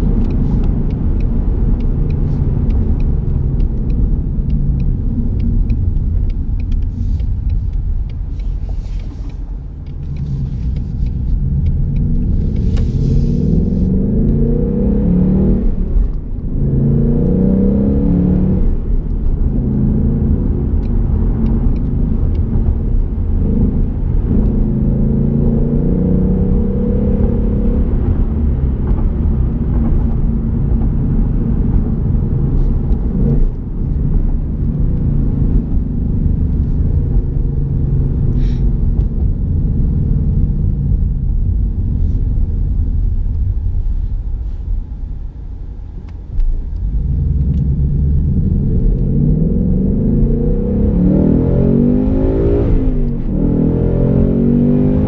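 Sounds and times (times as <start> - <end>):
car engine revving through gears: 0.0 - 41.2, 46.4 - 55.0.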